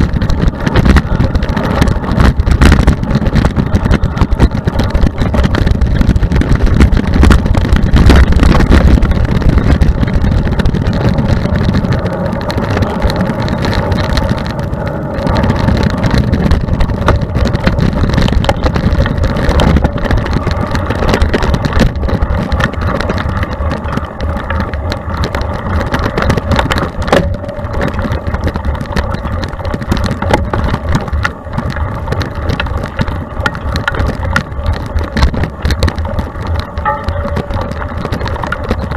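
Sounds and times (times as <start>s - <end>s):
bike chain and frame rattling: 0.0s - 38.9s
wind rumbling on microphone: 0.0s - 38.9s.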